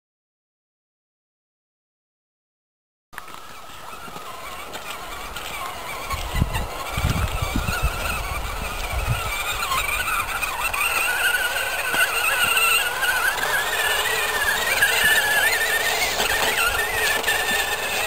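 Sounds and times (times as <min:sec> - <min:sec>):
electric motor and gears whining: 0:03.2 - 0:18.0.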